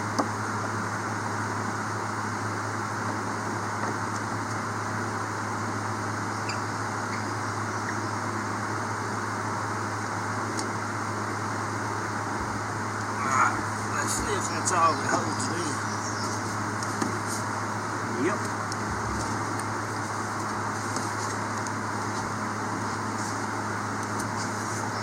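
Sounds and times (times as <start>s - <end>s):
machine hum with hiss: 0.0s - 25.0s.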